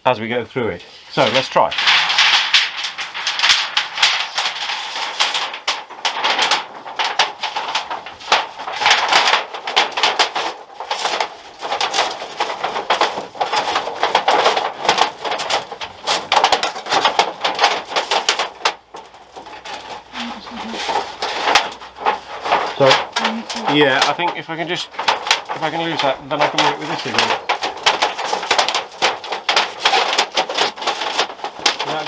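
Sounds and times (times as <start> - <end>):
metal sheet crinkling and rattling: 0.2 - 32.0.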